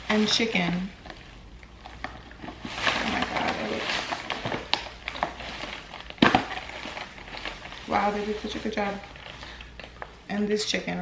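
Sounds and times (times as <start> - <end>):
plastic bag rustling: 0.0 - 10.3.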